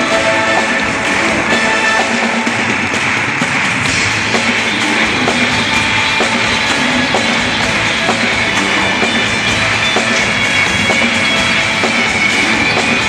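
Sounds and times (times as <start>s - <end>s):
bass line: 0.0s - 3.1s, 3.8s - 13.0s
rock music with guitar and drums: 0.0s - 13.0s.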